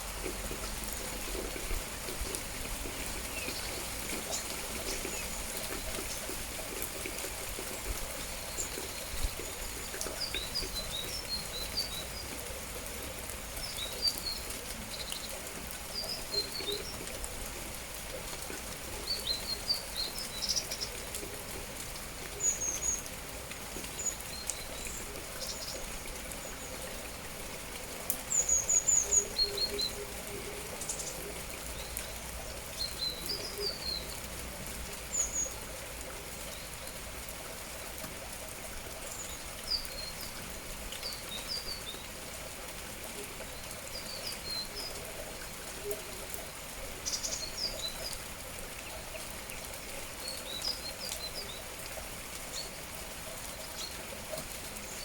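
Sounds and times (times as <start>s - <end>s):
rain falling: 0.0s - 55.0s
songbirds chirping: 0.6s - 17.2s, 22.1s - 35.8s, 38.8s - 55.0s.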